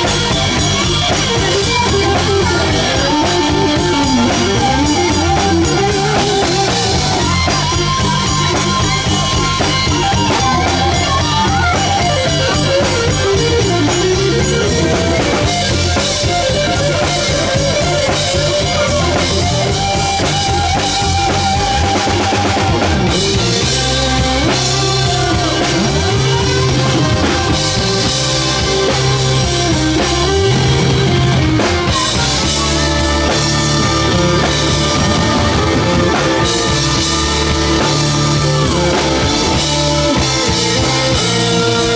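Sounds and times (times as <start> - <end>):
bass guitar: 0.0 - 41.9
drum kit beat: 0.0 - 41.9
gliding guitar melody: 0.0 - 41.9.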